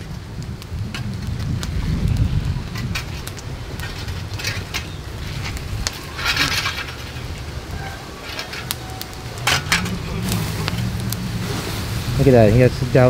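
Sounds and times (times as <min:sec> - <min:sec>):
fire hissing: 0:00.0 - 0:13.0
wind rumbling on microphone: 0:00.0 - 0:13.0
wood fire crackling and popping: 0:00.0 - 0:13.0.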